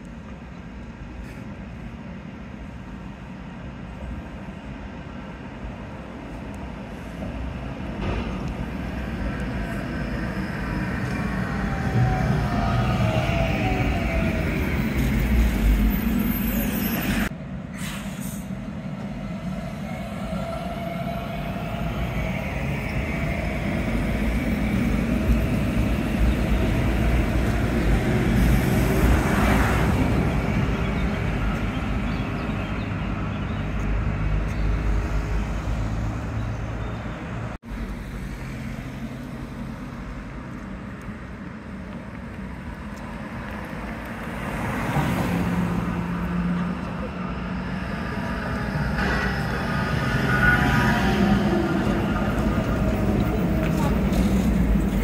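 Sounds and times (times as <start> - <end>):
street traffic: 0.0 - 55.0
tram rumbling past: 0.0 - 55.0.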